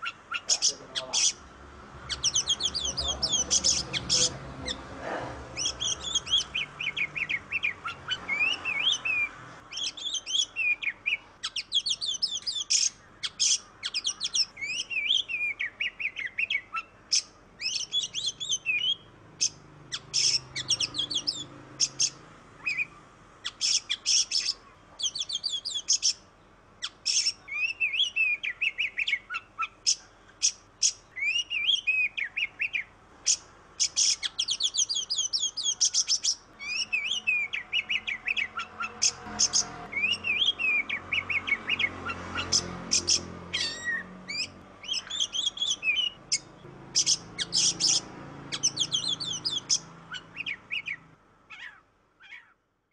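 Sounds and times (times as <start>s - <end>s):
songbird whistling and trilling: 2.1s - 4.8s, 5.6s - 26.2s, 26.8s - 52.5s.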